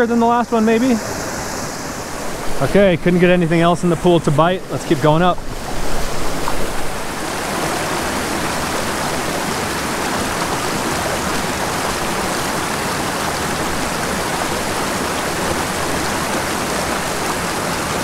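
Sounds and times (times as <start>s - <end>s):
creek rushing over boulders: 0.0s - 18.0s.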